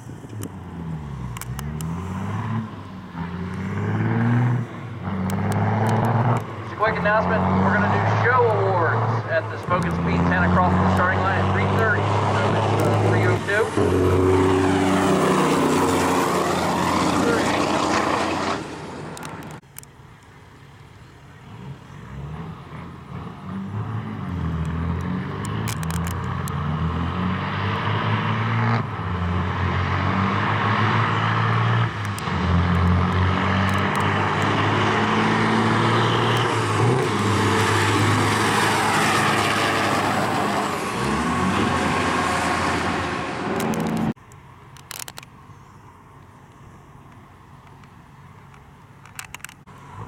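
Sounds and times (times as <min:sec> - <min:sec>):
diesel truck engines accelerating: 0:00.0 - 0:50.0.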